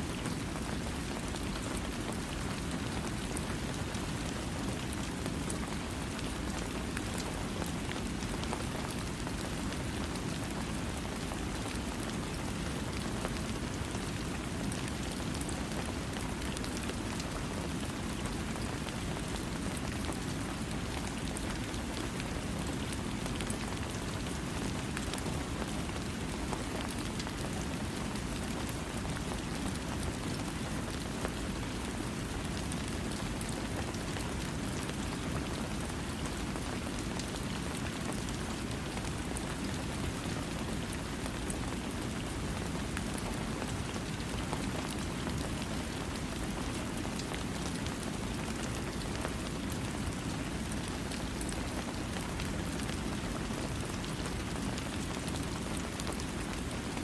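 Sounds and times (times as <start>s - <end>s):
patter of raindrops: 0.0s - 57.0s
steady rain falling: 0.0s - 57.0s.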